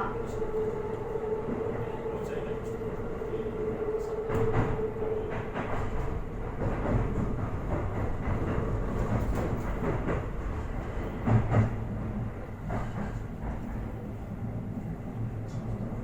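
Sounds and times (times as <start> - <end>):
train wheel on rail rumble: 0.0 - 16.0
rail joint clicks: 0.1 - 16.0.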